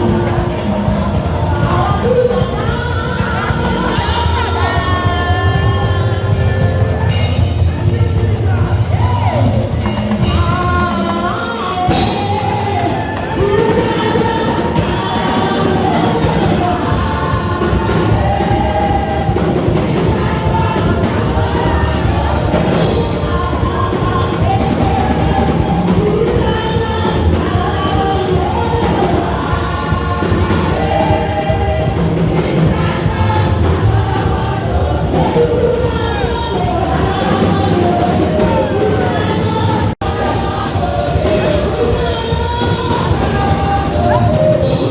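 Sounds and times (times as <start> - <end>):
band with drums: 0.0 - 44.9
voices singing: 0.0 - 44.9.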